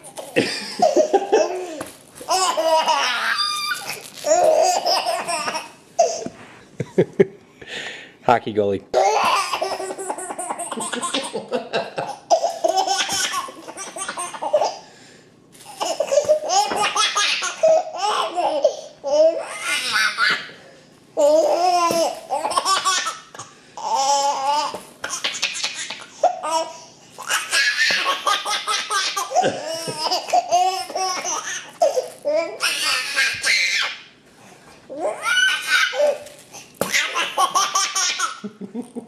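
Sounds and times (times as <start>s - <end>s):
baby laughing: 0.0s - 6.3s, 9.0s - 14.8s, 15.7s - 20.6s, 21.2s - 34.0s, 34.9s - 36.2s, 36.8s - 39.0s.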